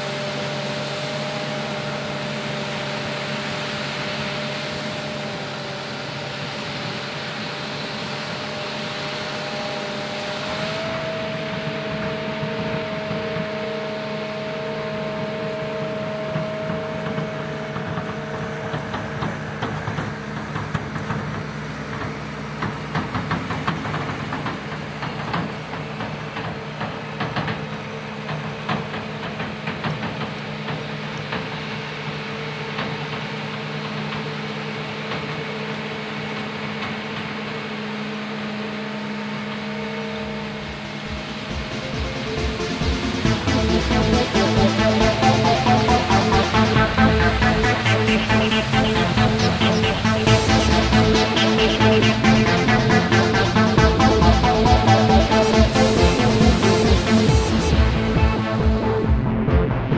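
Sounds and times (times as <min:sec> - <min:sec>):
harvester machine drone: 0:00.0 - 0:59.9
machine whining tones: 0:00.0 - 0:59.9.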